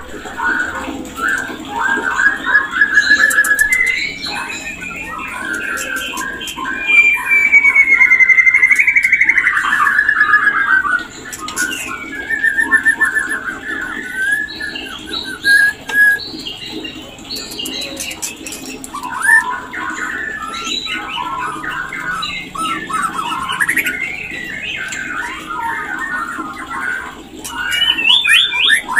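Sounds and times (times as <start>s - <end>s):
bird trilling: 0.0s - 28.9s
bird whistled notes: 0.0s - 28.9s.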